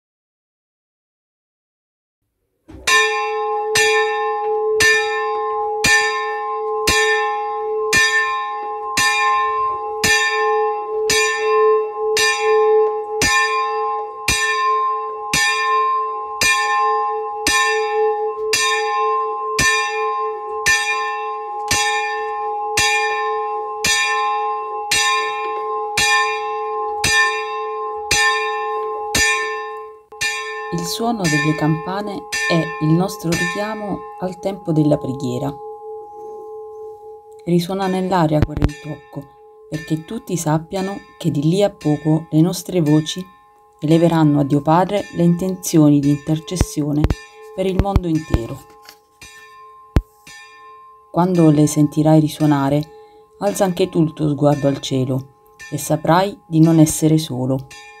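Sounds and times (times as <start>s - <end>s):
church bell ringing: 2.8s - 58.0s.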